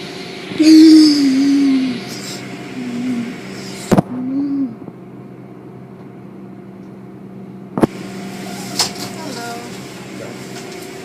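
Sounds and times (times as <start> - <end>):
car wash equipment hum: 0.0 - 11.0.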